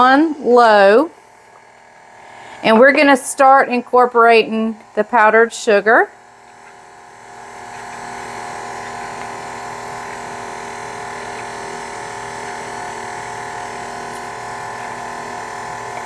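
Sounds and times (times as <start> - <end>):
stand mixer motor humming: 0.0 - 16.0.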